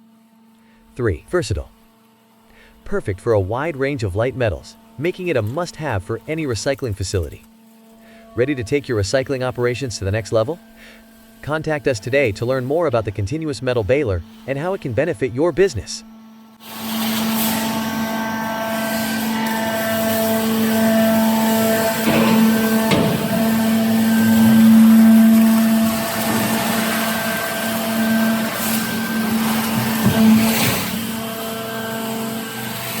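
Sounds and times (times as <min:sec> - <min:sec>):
metal baler humming and whining: 0:02.1 - 0:33.0.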